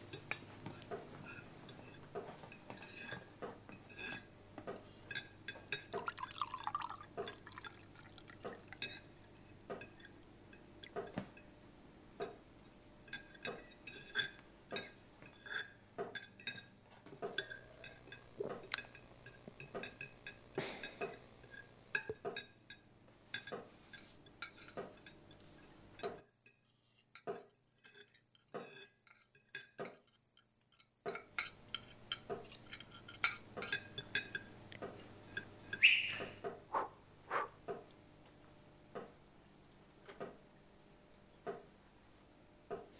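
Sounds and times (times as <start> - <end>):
cutlery clinking on plates: 0.1 - 11.6, 12.2 - 36.6.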